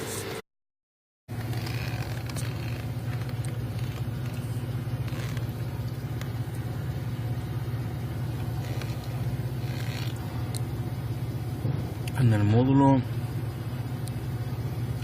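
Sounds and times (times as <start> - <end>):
car engine idling: 1.3 - 15.0.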